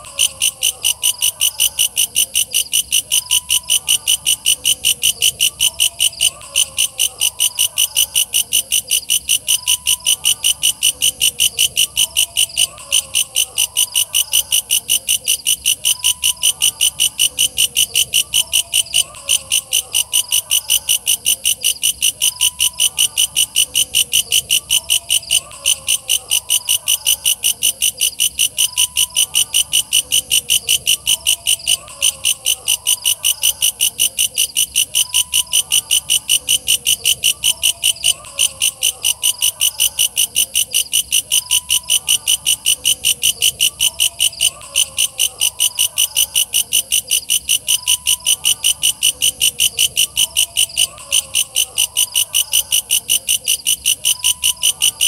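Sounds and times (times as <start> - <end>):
fainter lower insect calls: 0.0 - 55.0.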